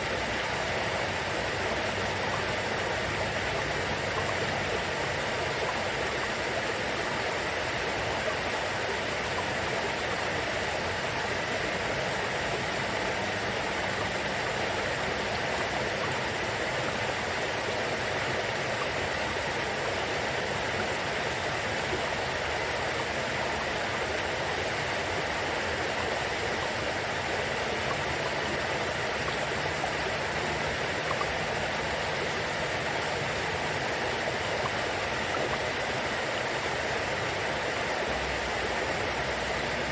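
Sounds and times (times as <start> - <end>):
river babbling over stones: 0.0 - 39.9.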